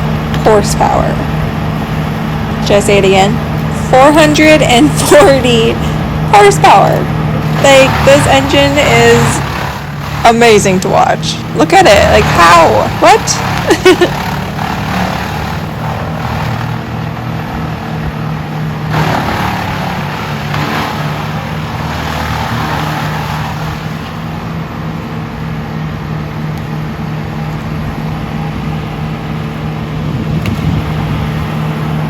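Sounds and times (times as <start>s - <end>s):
wood chipper engine running: 0.0s - 32.0s.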